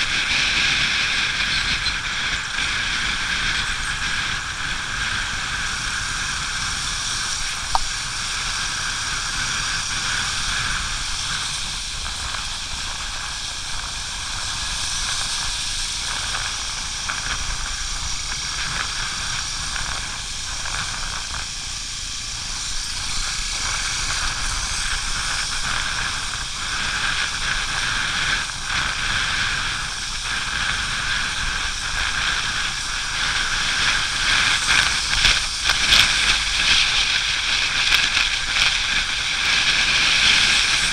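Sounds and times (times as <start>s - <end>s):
wind and tyres on wet asphalt: 0.0s - 40.9s.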